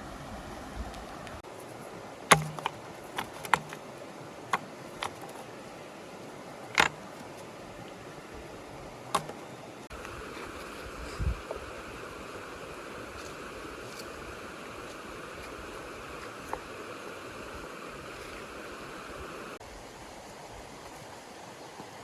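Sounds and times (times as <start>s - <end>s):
running stream water: 0.0s - 22.0s.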